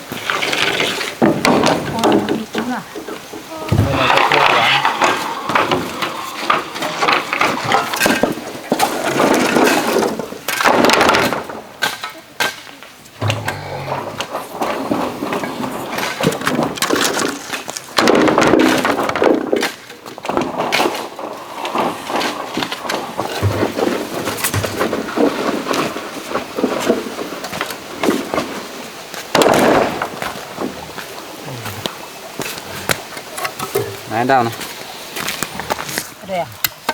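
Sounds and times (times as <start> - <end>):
bamboo knocking and clattering: 0.0 - 36.9.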